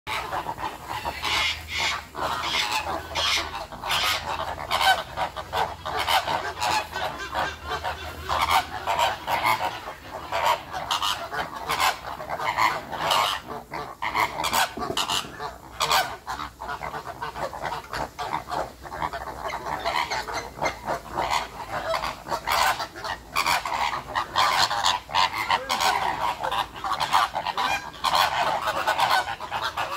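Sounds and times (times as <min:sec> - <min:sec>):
flamingos honking: 0:00.1 - 0:29.9.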